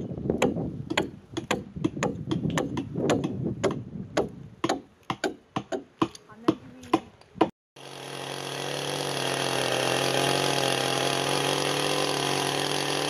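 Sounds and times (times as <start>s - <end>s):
hand tool chopping wood: 0.4s - 13.0s.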